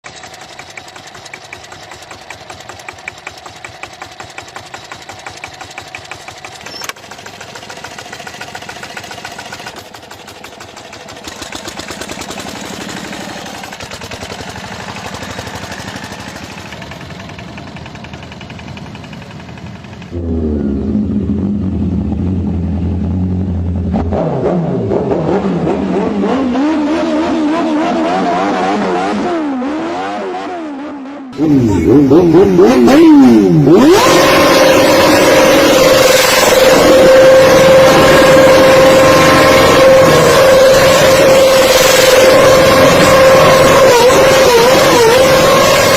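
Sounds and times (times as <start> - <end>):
motorcycle engines revving: 0.2 - 45.9.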